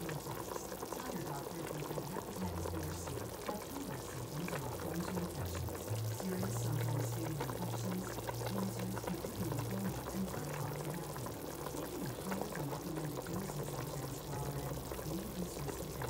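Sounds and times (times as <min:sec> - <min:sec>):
soup boiling and bubbling: 0:00.0 - 0:16.0.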